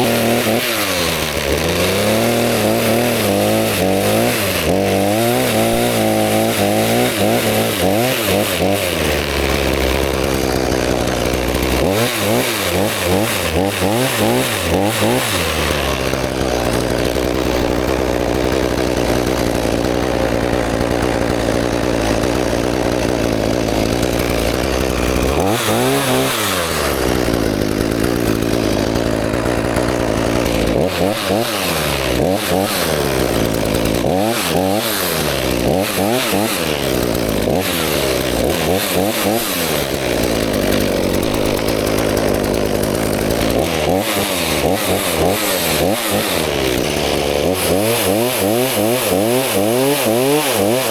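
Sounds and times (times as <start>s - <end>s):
chainsaw engine revving: 0.0s - 50.9s.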